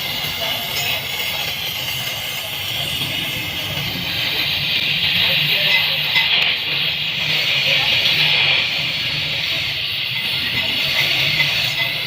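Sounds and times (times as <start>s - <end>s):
welding arc hissing and buzzing: 0.0s - 12.0s.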